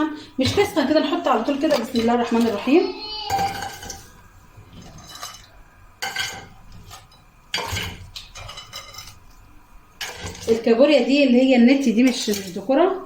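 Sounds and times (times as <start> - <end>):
crab shells clattering on metal pot: 0.4 - 2.7, 3.3 - 10.9, 11.7 - 12.8.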